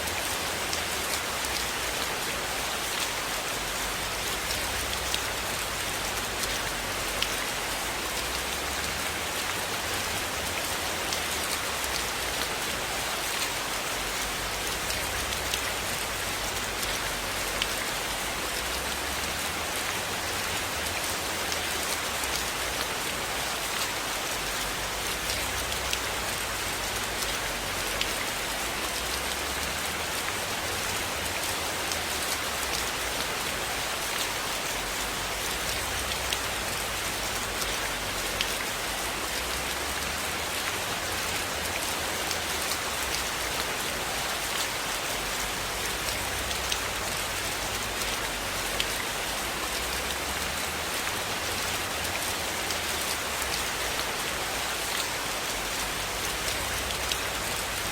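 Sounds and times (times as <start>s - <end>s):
rain on a roof: 0.0s - 57.9s.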